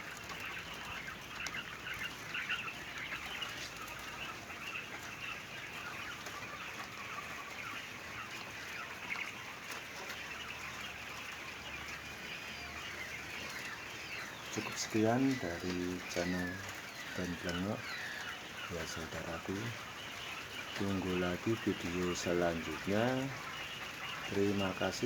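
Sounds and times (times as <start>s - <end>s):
quails chirping and calling: 0.0s - 25.0s.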